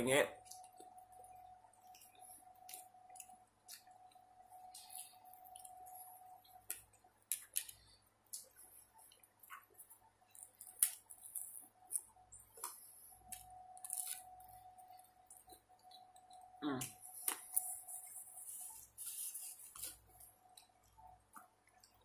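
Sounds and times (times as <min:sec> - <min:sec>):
faint steady hum: 0:00.0 - 0:22.0
chewing food: 0:00.4 - 0:22.0.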